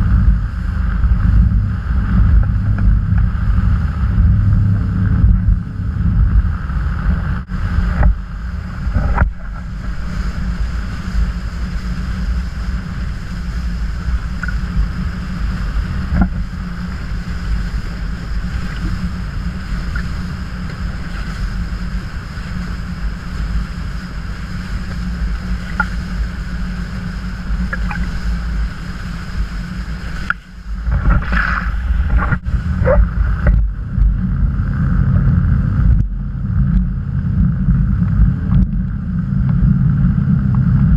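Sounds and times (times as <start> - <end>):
motorboat engine rumble: 0.0 - 40.9
wind buffeting microphone: 0.0 - 40.9.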